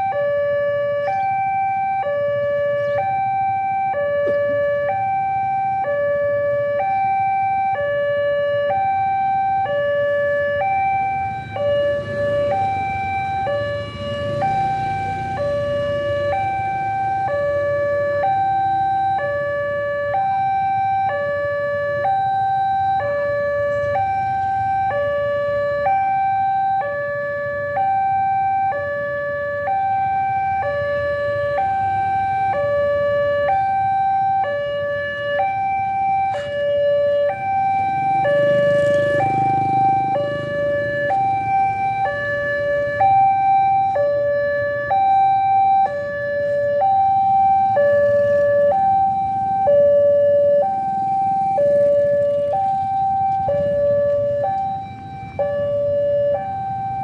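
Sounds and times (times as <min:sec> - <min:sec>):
level crossing two-tone alarm: 0:00.0 - 0:57.0.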